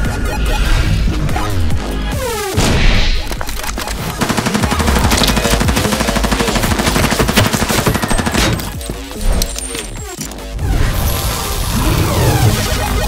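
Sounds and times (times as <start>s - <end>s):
music: 0.0s - 13.0s.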